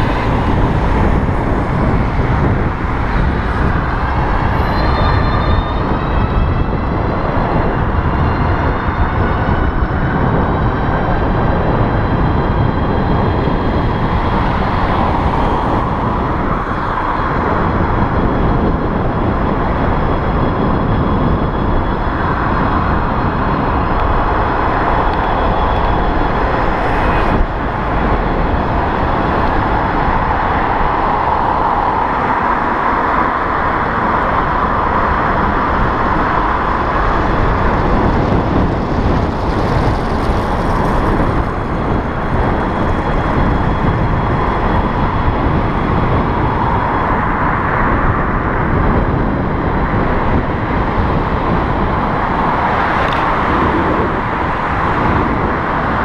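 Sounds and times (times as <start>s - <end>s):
road noise from bicycle: 0.0s - 56.0s
rushing wind: 0.0s - 56.0s.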